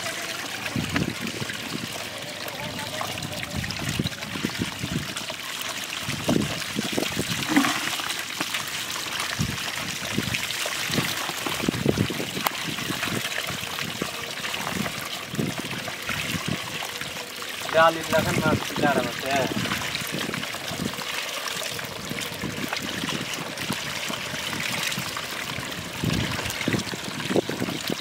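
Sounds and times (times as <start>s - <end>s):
colander splashing in water: 0.0s - 28.0s
trickle of running water: 0.0s - 28.0s.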